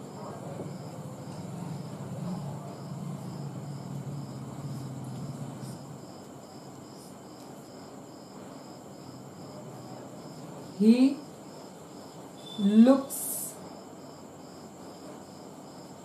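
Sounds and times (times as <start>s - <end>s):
cricket chirping: 0.0s - 16.0s
faint high whine: 0.0s - 16.0s.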